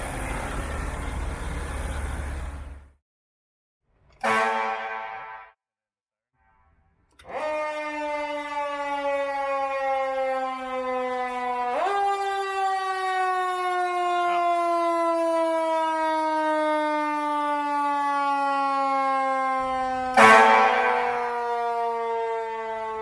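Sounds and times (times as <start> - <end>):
fire engine siren: 0.0 - 3.0, 4.2 - 5.6, 7.1 - 23.0.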